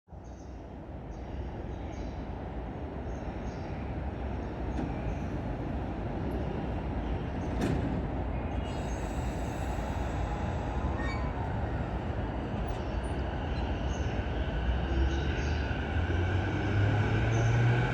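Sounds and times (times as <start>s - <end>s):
train low rumble: 0.2s - 17.9s.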